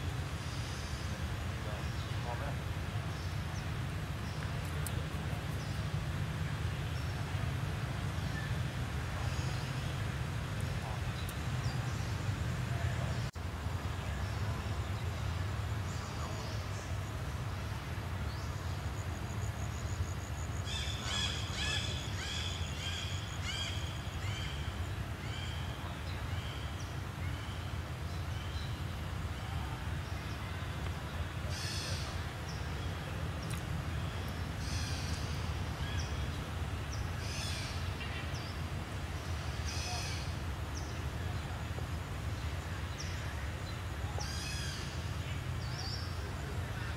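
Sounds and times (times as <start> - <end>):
birds calling: 0.0 - 46.9.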